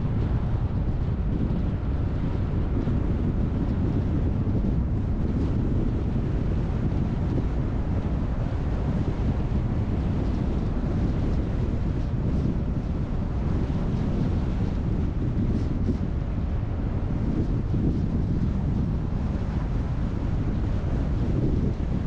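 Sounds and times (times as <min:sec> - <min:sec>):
car driving low rumble: 0:00.0 - 0:22.0.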